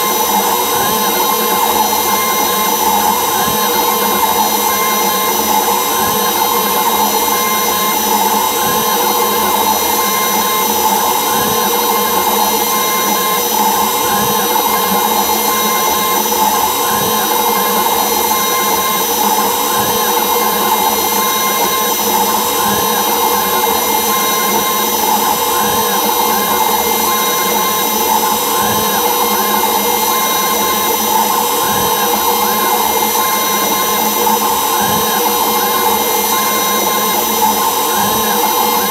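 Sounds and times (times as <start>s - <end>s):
cnc router spindle whine: 0.0s - 38.9s
rising and falling machine whines: 0.0s - 38.9s.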